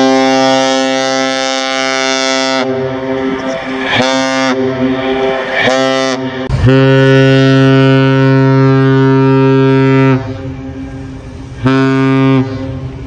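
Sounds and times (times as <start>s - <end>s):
deep ship's horn blasts: 0.0s - 13.0s.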